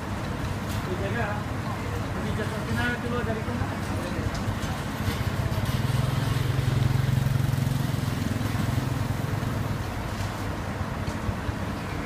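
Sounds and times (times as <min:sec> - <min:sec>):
diesel engine droning under load: 0:00.0 - 0:12.0.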